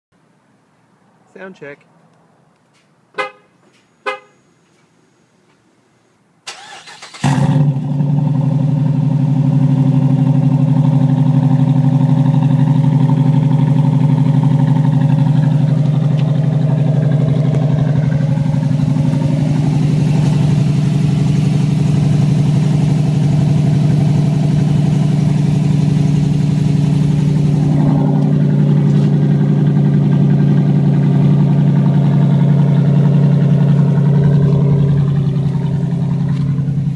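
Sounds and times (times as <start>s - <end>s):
car engine starting and idling: 6.4s - 36.9s.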